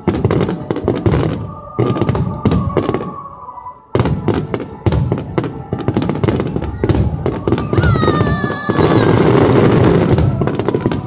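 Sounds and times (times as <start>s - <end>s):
fireworks bursting and crackling: 0.0s - 11.0s.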